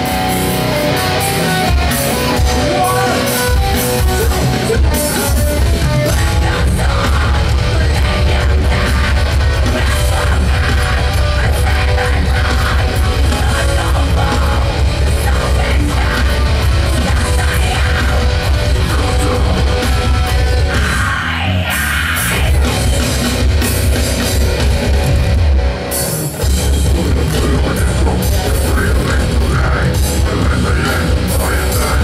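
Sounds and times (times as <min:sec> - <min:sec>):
distorted electric guitars: 0:00.0 - 0:32.0
drum kit: 0:00.0 - 0:32.0.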